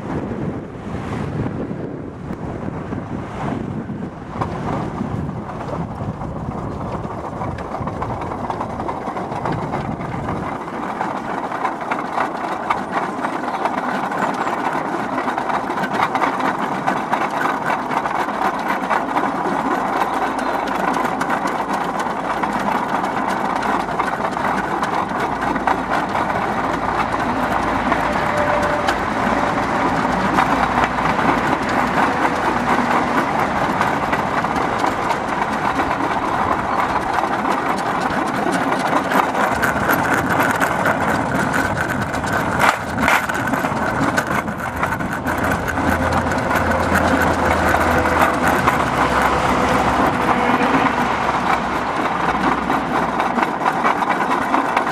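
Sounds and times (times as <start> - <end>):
wheels rumbling on rails: 0.0 - 54.9.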